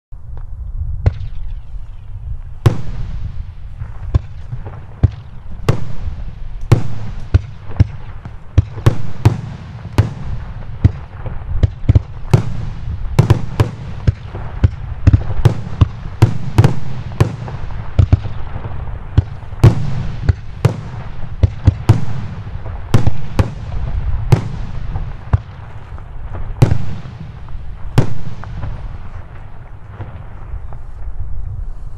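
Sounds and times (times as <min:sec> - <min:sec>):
fireworks launch thumps and bangs: 0:03.8 - 0:30.8.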